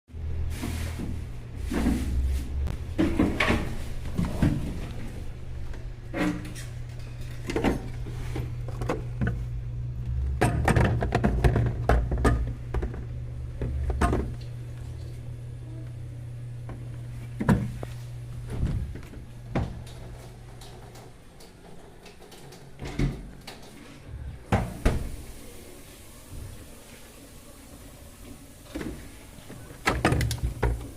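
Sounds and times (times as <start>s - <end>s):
refrigerator low hum: 0.1s - 30.9s.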